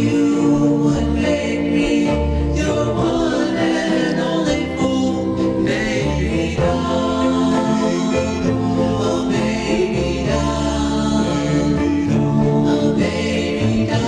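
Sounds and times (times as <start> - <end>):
bass accompaniment: 0.0 - 14.0
vocal group singing harmonies: 0.0 - 14.0.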